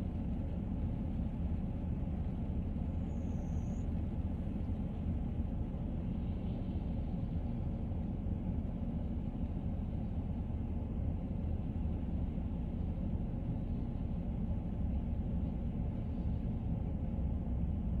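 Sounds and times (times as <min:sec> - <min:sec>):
vehicle driving low rumble: 0:00.0 - 0:18.0.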